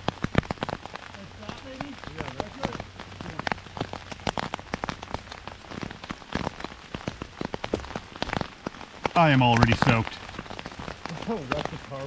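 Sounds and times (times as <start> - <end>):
heavy rain hiss: 0.0 - 12.0
raindrops hitting microphone: 0.0 - 12.0.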